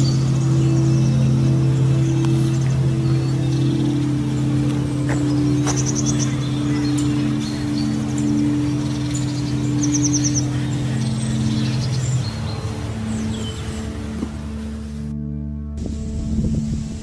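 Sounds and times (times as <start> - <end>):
birds chirping and trilling: 0.0 - 15.1.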